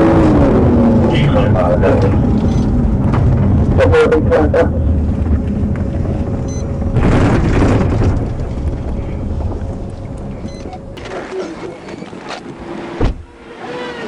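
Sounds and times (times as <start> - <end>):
road and engine noise in car: 0.0 - 7.0, 9.2 - 14.0.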